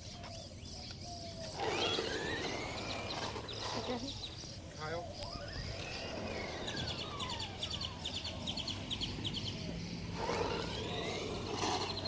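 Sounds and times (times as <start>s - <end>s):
faint falling whine: 0.0s - 12.0s
small bird chirping: 0.0s - 12.0s.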